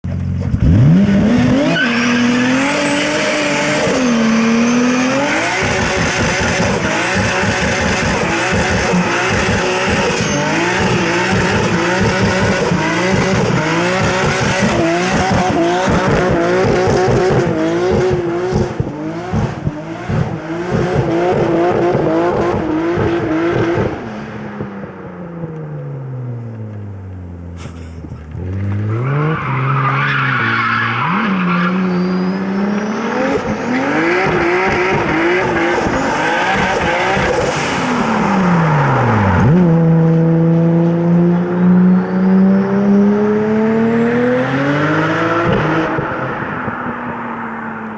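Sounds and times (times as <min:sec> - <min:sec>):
car engine revving hard: 0:00.4 - 0:24.2, 0:27.6 - 0:47.9.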